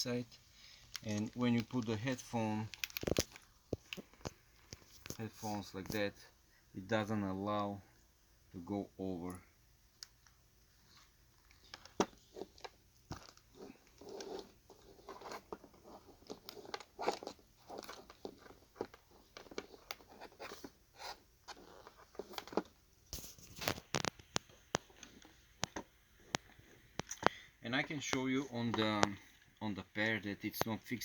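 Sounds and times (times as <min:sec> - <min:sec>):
headphones clicking and scraping: 0:00.0 - 0:06.2, 0:09.3 - 0:31.0.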